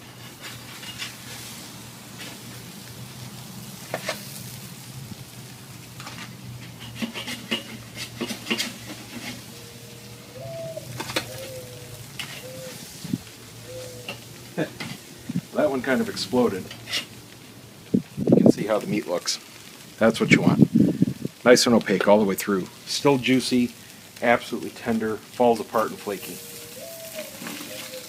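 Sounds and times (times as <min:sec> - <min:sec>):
fish sizzling on a grill: 0:00.0 - 0:28.0.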